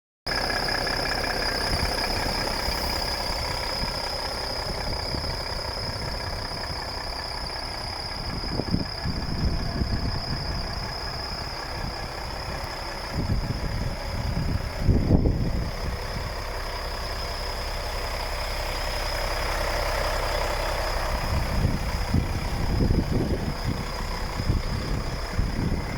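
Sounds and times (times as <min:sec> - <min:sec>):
diesel truck engine idling: 0:00.3 - 0:25.9
high-pitched whine: 0:00.3 - 0:25.9.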